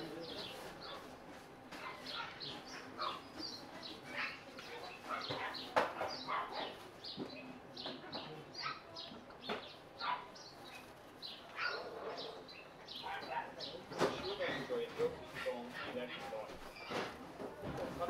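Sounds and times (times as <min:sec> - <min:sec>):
small animals chirping and squeaking: 0:01.7 - 0:17.2.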